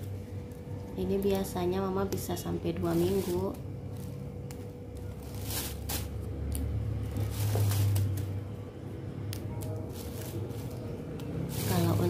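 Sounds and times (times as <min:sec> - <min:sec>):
chilies rustling: 0:00.0 - 0:08.4, 0:09.3 - 0:12.0.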